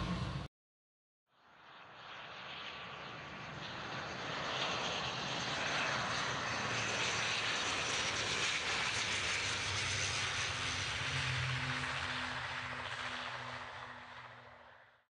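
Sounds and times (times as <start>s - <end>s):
turboprop airliner landing: 0.0s - 0.5s, 1.5s - 15.0s.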